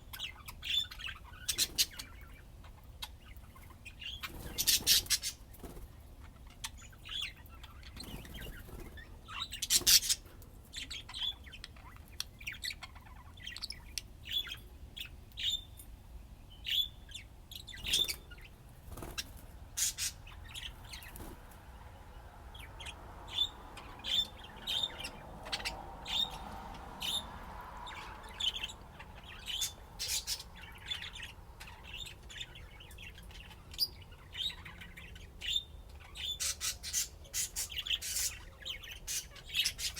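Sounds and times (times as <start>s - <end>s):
budgerigars chirping: 0.0s - 15.8s, 16.5s - 21.9s, 22.6s - 39.9s.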